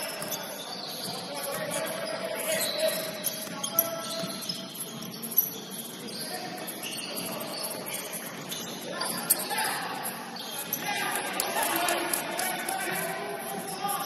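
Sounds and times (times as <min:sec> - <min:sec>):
sneakers squeaking on court: 0:00.0 - 0:14.0.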